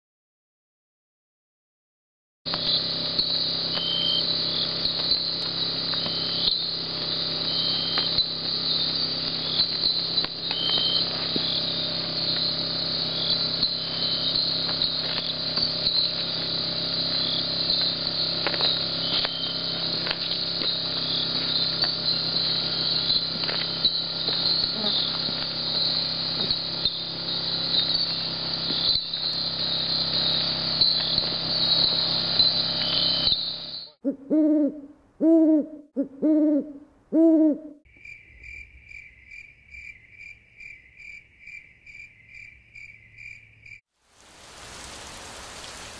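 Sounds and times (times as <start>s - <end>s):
crickets trilling: 2.5s - 34.0s, 37.8s - 45.9s
short insect chirp: 2.5s - 34.0s, 37.9s - 45.9s.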